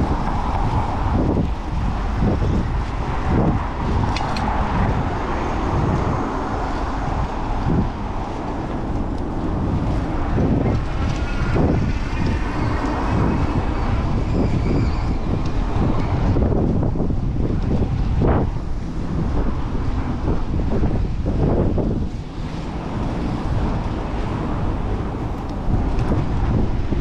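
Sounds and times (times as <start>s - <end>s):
city road traffic: 0.0s - 27.0s
wind rushing over microphone: 0.0s - 27.0s.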